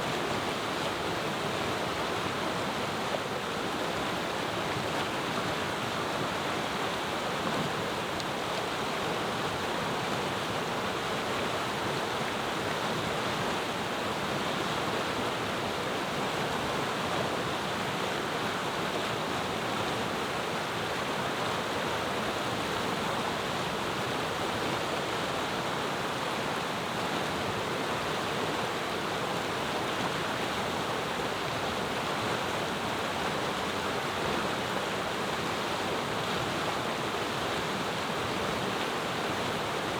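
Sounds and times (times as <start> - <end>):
river rushing over stones: 0.0 - 39.9.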